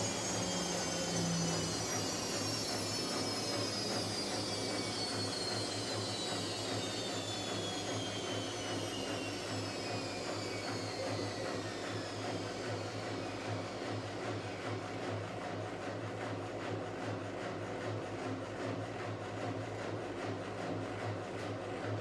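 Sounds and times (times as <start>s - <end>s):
washing machine drum spin slowing: 0.0s - 22.0s.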